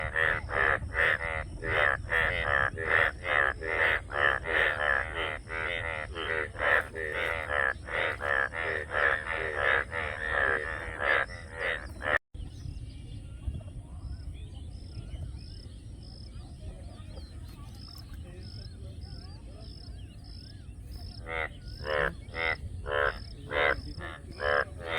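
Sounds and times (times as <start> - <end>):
frogs croaking: 0.0 - 12.2, 17.1 - 24.9.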